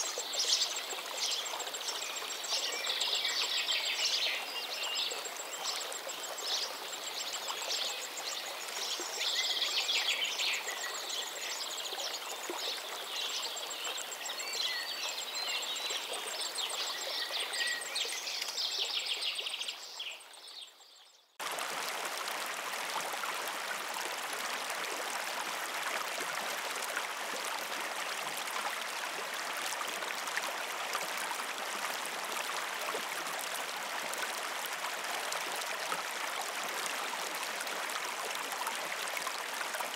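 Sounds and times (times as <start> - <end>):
running water rushing: 0.0 - 20.6, 21.4 - 39.9.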